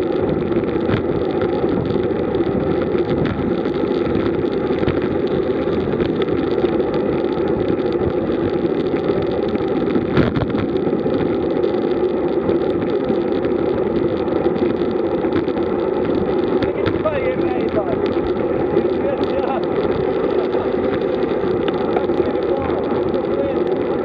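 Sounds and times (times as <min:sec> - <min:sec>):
bike tyres rolling on asphalt: 0:00.0 - 0:24.0
wind on microphone: 0:00.0 - 0:24.0.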